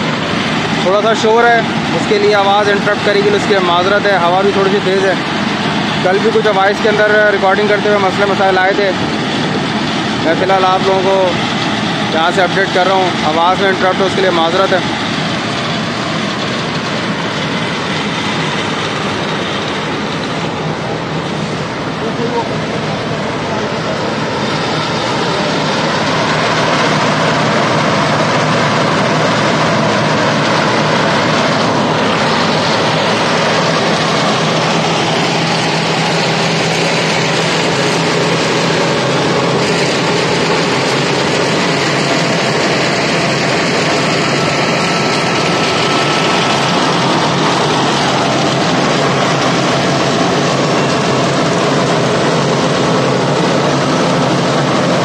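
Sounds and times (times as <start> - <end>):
asphalt paver diesel engine running: 0.0 - 55.0.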